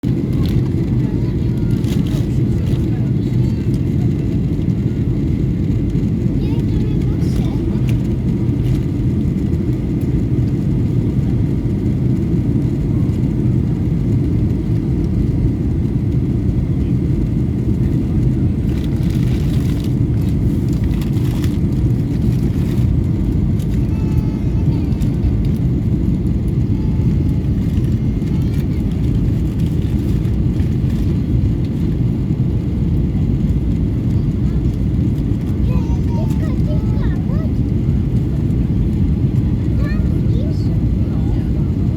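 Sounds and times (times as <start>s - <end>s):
airplane rumble in flight: 0.0s - 41.9s.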